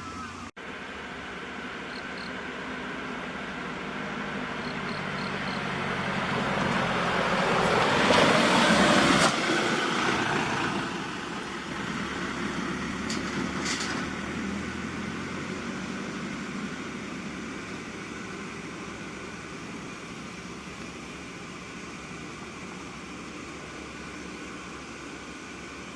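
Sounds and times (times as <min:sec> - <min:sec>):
large truck driving past: 0:00.0 - 0:25.9.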